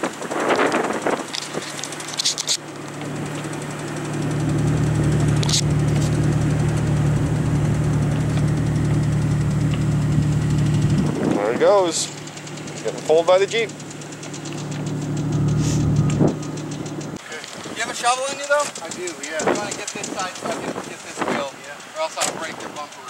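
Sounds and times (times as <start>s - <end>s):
engine running under load: 0.0s - 23.0s.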